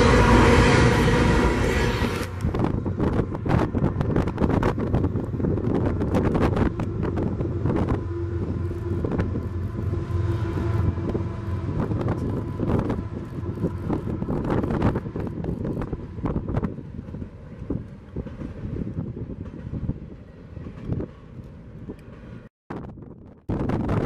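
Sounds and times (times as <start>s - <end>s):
locomotive engine drone: 0.0s - 22.5s
wind buffeting microphone: 0.0s - 24.0s.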